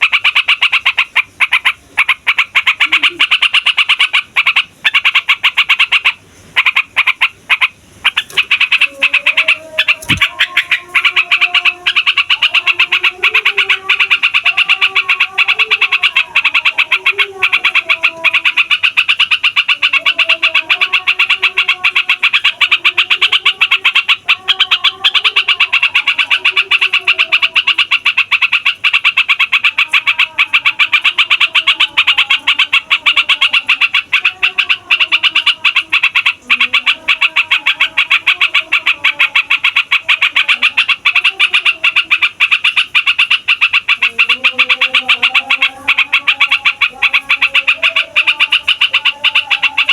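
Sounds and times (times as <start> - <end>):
bird rapid rolling chatter: 0.0 - 49.9
lower wavering bird calls: 0.0 - 49.9.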